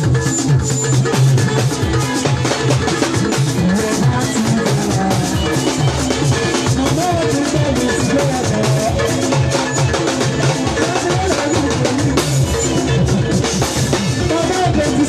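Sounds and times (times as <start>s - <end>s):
drum kit steady beat: 0.0s - 15.0s
gospel band music: 0.0s - 15.0s.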